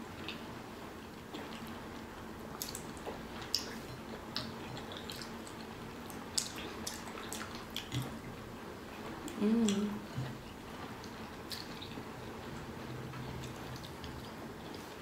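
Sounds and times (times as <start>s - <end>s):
wet chewing of fruit: 1.2s - 8.4s, 9.2s - 12.3s, 13.2s - 15.0s.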